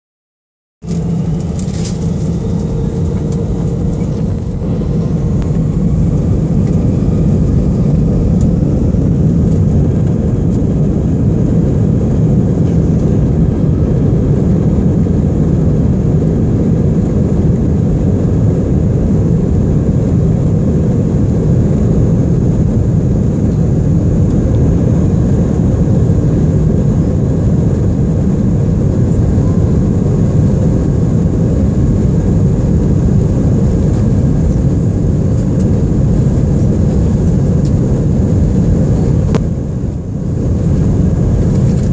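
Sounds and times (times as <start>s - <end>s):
jet engines at take-off power: 0.8s - 41.9s.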